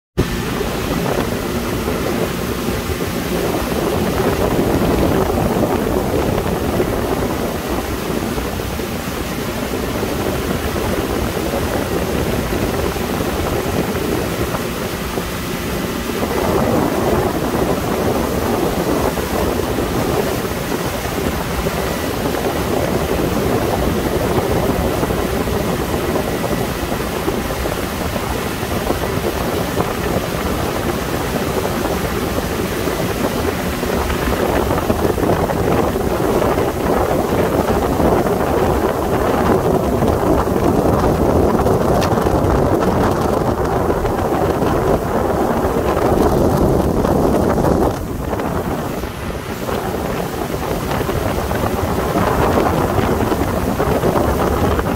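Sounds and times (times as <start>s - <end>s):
rush of wind and water: 0.1s - 54.9s
boat engine running: 0.2s - 54.9s.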